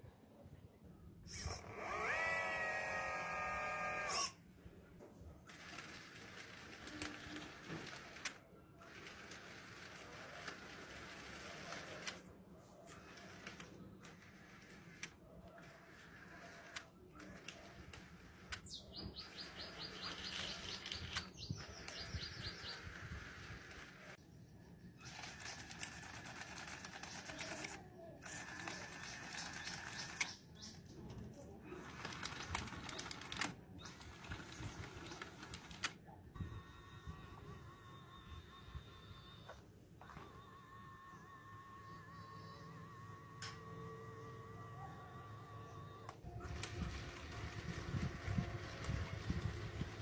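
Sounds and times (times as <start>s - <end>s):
small electric motor whining: 1.2s - 4.4s, 5.5s - 12.2s, 12.9s - 24.2s, 25.0s - 50.0s.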